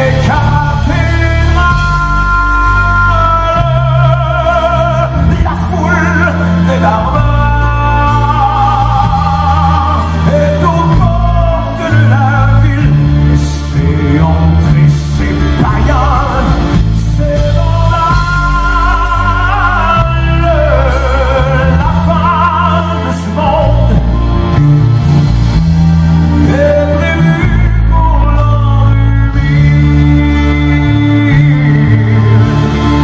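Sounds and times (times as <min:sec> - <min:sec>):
man singing with vibrato: 0:00.0 - 0:25.3, 0:26.1 - 0:33.0
band accompaniment: 0:00.0 - 0:33.0.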